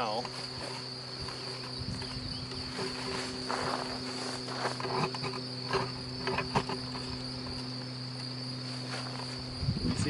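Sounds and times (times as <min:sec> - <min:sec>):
light knocks of hive frames: 0:00.0 - 0:09.4
honeybees buzzing: 0:00.0 - 0:10.0.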